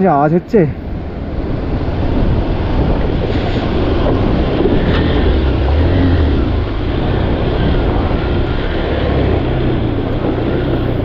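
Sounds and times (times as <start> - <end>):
motorcycle engine at low speed: 0.9 - 11.0.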